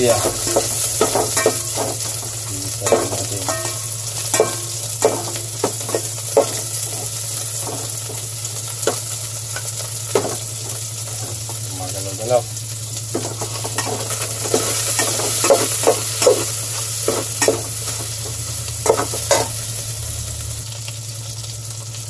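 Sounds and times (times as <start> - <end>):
garlic sizzling in fat: 0.0 - 22.0.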